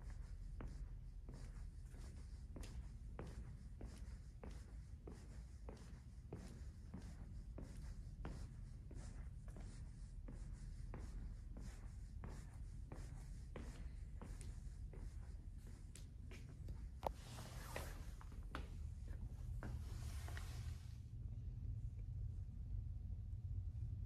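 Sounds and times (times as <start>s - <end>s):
low room rumble: 0.0s - 24.0s
footsteps walking: 0.6s - 20.8s.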